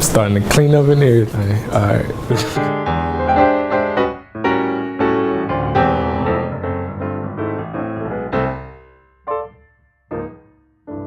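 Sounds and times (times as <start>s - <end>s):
piano music: 1.2s - 11.0s.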